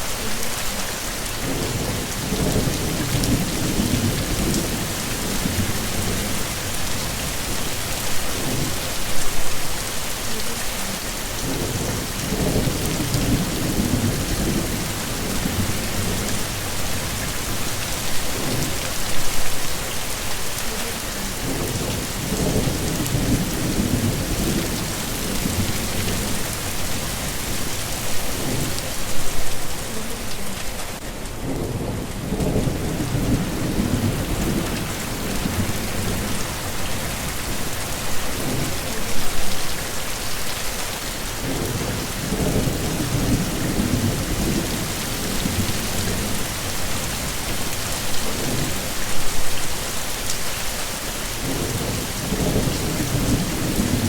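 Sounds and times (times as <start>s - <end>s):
heavy rain falling: 0.0s - 54.0s
thunder rumbling: 1.4s - 10.0s, 11.4s - 20.4s, 21.2s - 40.3s, 41.3s - 49.6s, 51.4s - 54.0s.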